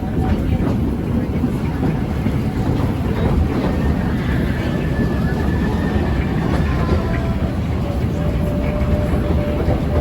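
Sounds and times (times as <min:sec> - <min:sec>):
train cars rumbling on track: 0:00.0 - 0:10.0.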